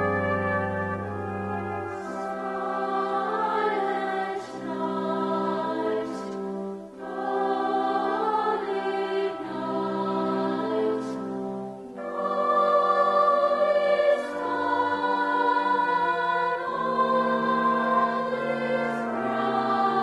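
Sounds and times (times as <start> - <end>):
choir singing long held chords: 0.0 - 20.0.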